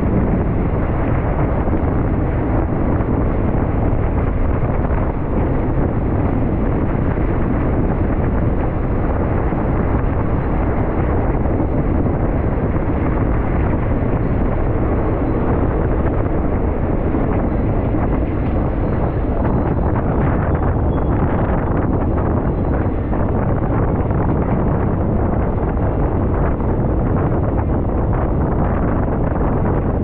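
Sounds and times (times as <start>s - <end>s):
moving vehicle running noise: 0.0s - 30.0s
wind buffeting microphone: 0.0s - 30.0s.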